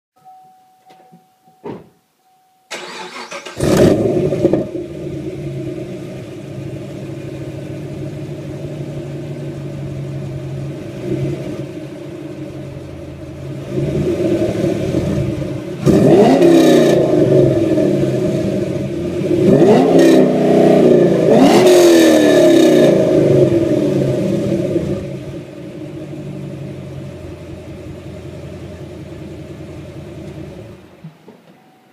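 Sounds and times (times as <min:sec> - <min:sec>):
car engine revving: 0:02.7 - 0:30.9
car engine idling: 0:02.7 - 0:31.3
car engine starting: 0:02.7 - 0:31.5.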